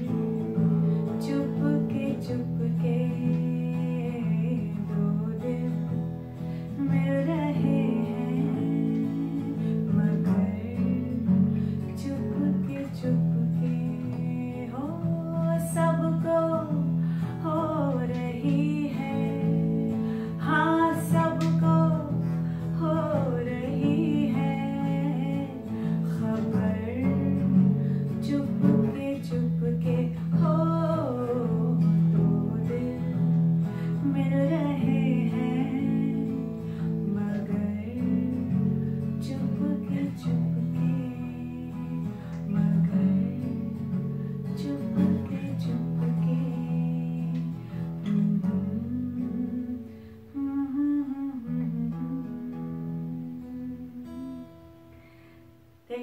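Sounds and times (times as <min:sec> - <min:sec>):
woman singing: 0:00.0 - 0:54.7
strummed acoustic guitar: 0:00.0 - 0:56.0.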